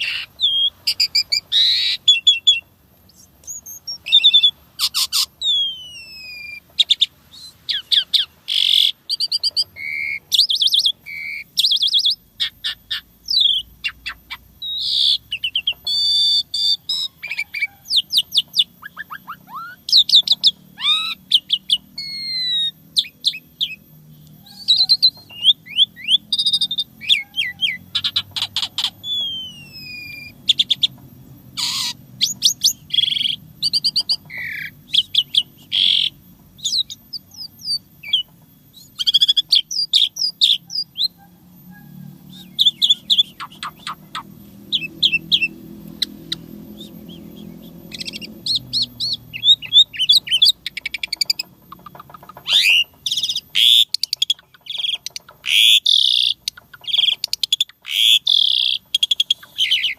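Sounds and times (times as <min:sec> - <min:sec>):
starling song: 0:00.0 - 0:54.0.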